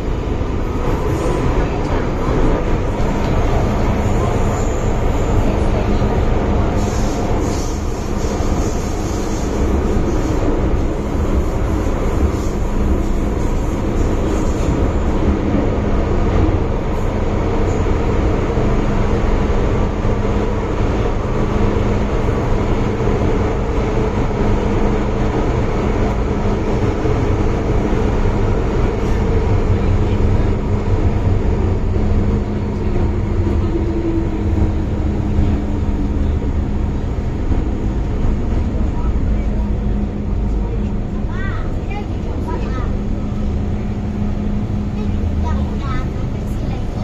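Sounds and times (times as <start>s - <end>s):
train interior rumble: 0.0s - 47.0s.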